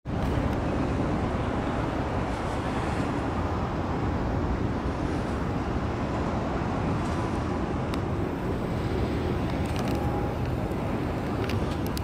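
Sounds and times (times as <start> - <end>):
city traffic roar: 0.0 - 12.0.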